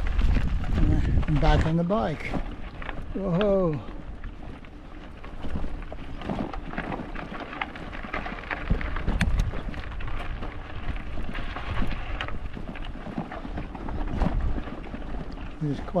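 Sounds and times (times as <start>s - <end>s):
crackles and clicks: 0.0s - 16.0s
wind buffeting microphone: 0.0s - 16.0s.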